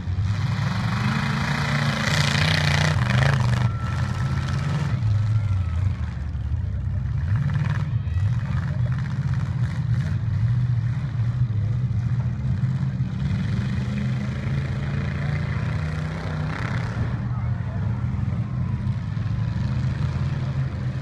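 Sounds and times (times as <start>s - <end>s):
truck engines revving: 0.0s - 21.0s.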